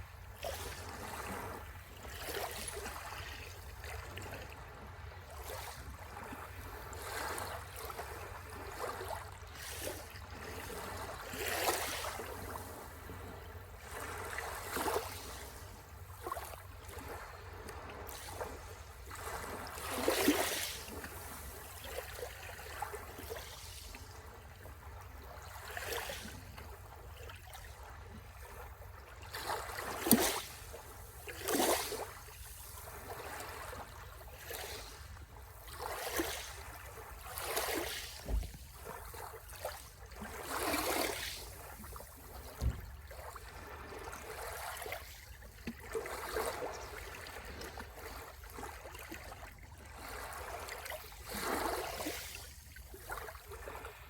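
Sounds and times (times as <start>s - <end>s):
waves lapping at shore: 0.0s - 54.0s.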